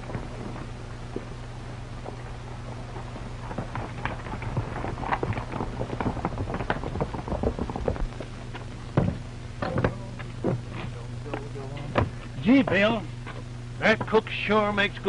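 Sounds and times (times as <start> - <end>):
horses galloping on dirt: 0.0 - 15.0.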